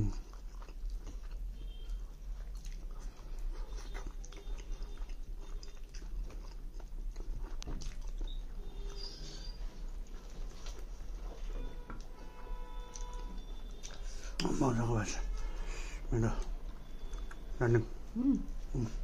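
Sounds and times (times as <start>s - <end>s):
man chewing food: 0.0s - 19.0s.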